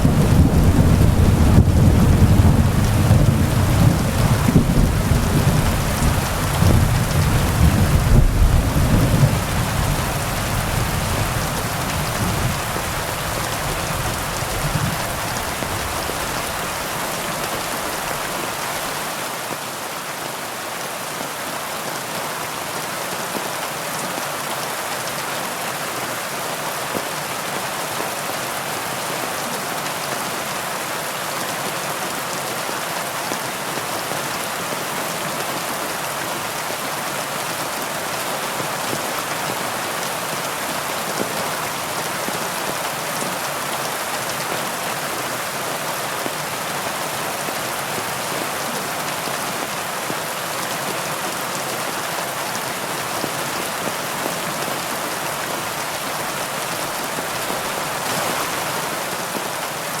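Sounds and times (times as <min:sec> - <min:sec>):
heavy rain pattering: 0:00.0 - 0:20.0, 0:31.3 - 1:00.0.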